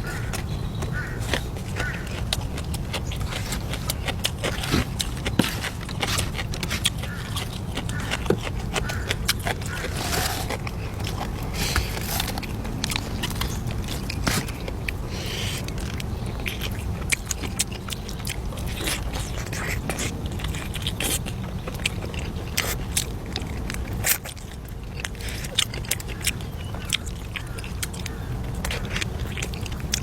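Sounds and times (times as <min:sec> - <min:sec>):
person chewing crunchy food: 0:00.0 - 0:30.0
steady low hum: 0:00.0 - 0:30.0.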